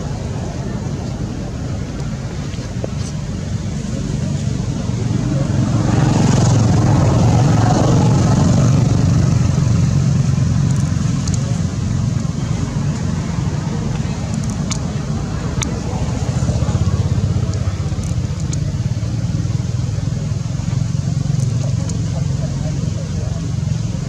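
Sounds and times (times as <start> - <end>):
road vehicle rumbling past: 0.0 - 24.0.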